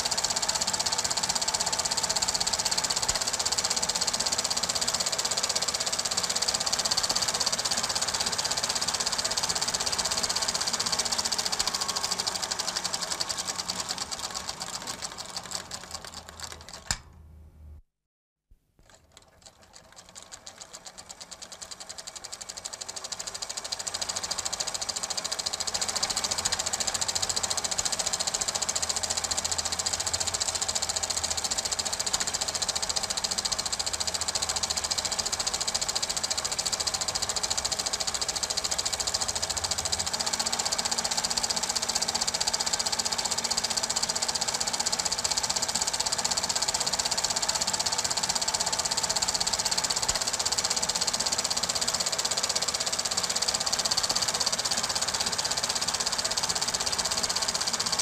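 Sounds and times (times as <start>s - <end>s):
film projector clattering: 0.0s - 17.1s, 18.8s - 58.0s.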